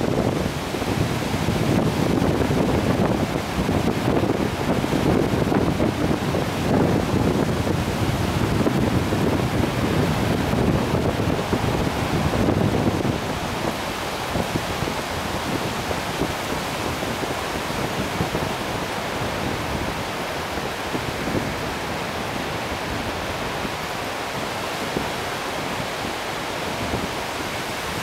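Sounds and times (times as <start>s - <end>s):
sea surf hissing on beach: 0.0s - 28.0s.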